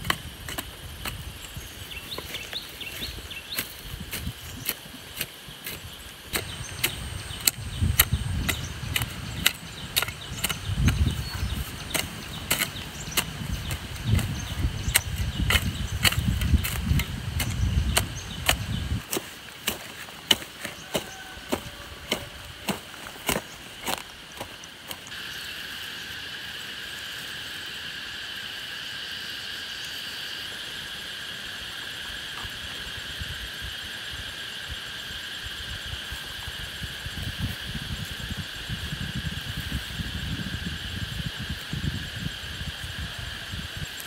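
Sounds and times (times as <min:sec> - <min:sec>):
high insect drone: 0:00.0 - 0:44.0.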